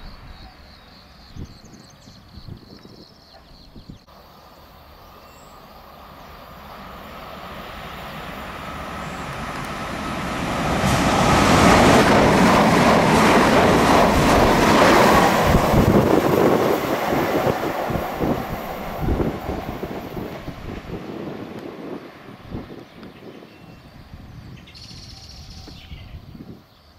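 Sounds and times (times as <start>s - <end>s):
train wheels rumbling on rails: 0.0s - 24.6s.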